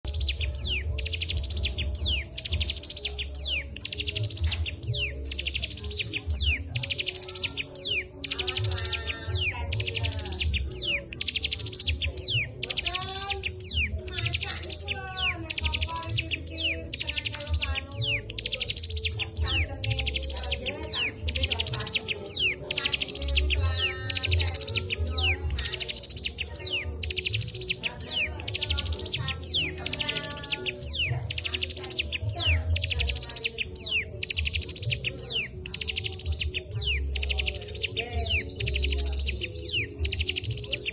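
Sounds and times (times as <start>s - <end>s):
bird whistles: 0.0s - 40.9s
songbird singing: 0.0s - 40.9s.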